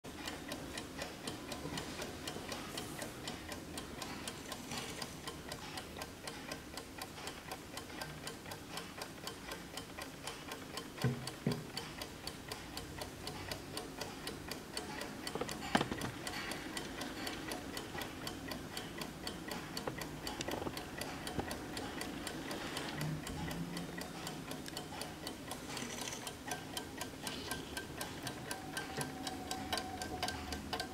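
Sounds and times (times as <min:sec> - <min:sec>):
alarm clock ticking: 0:00.1 - 0:30.9.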